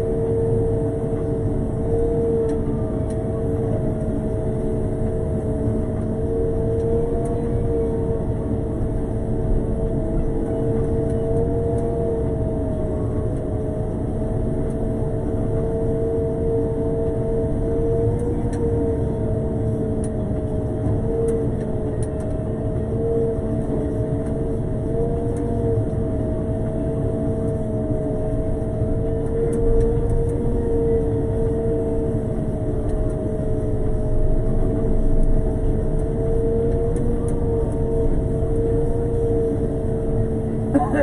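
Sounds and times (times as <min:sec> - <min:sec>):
low engine rumble: 0:00.0 - 0:41.0.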